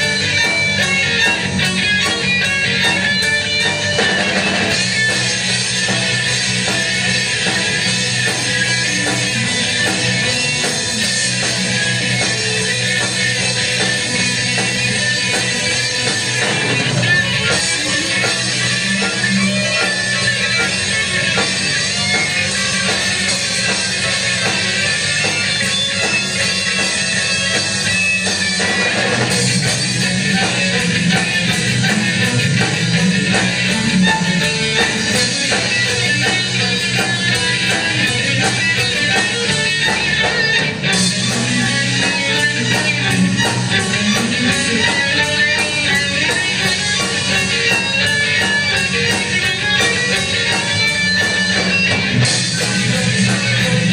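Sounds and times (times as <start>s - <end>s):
rock band music with guitars: 0.0s - 53.9s.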